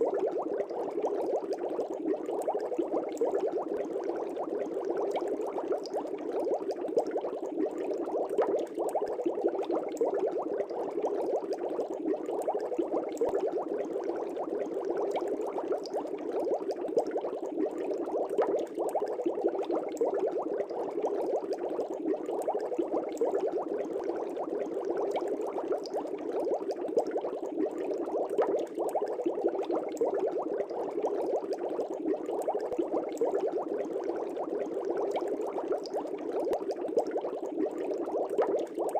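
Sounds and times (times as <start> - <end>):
air bubbles in fish tank water: 0.0 - 38.9.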